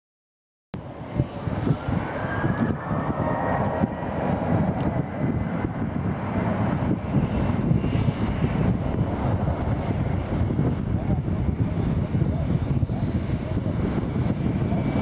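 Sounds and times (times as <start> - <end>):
jet engine whine: 0.8 - 15.0.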